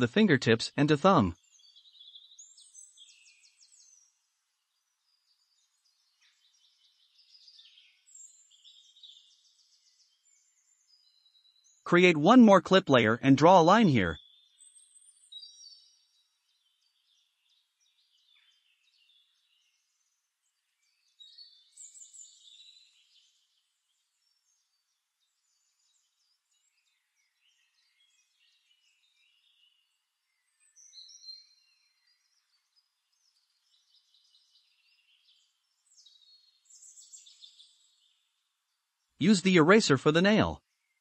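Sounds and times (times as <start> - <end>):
faint high-pitched bird chirps: 0.0 - 41.0.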